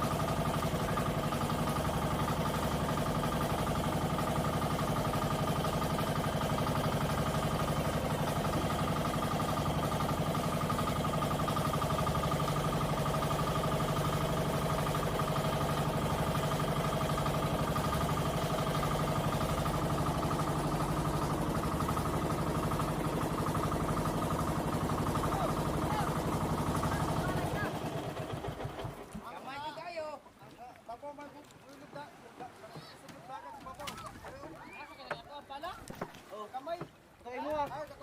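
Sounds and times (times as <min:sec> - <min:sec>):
boat engines running: 0:00.0 - 0:38.0.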